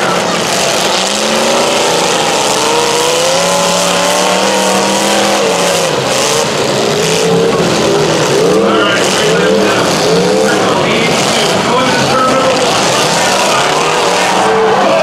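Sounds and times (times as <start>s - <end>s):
car engines revving: 0.0s - 15.0s
engine and track noise: 0.0s - 15.0s.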